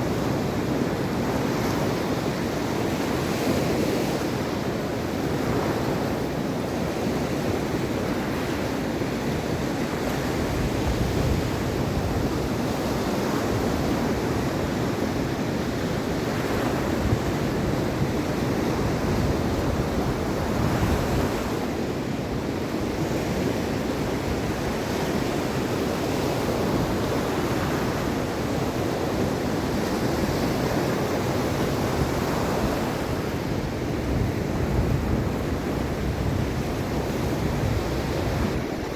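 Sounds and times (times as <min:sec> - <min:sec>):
sea waves washing onto shore: 0:00.0 - 0:38.9
wind on microphone: 0:05.3 - 0:38.9.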